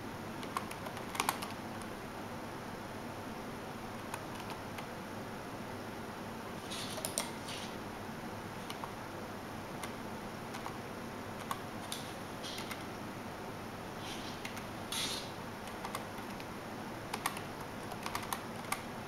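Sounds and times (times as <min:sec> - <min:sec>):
room hum: 0:00.0 - 0:19.0.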